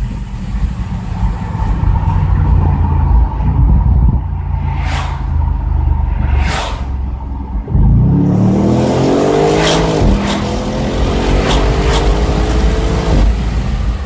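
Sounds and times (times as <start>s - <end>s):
car engine accelerating hard: 0.0s - 14.0s
exhaust cracks: 0.0s - 14.0s.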